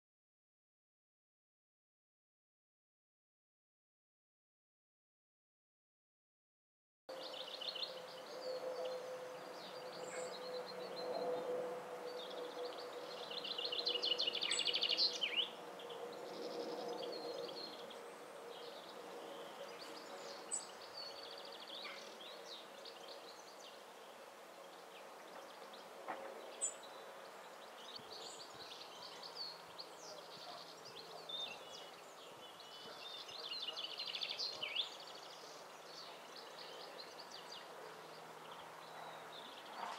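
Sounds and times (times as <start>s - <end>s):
songbirds twittering: 7.1s - 39.9s.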